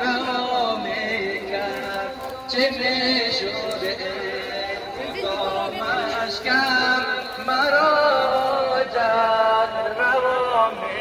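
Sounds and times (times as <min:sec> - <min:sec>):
person singing mourning chant: 0:00.0 - 0:11.0.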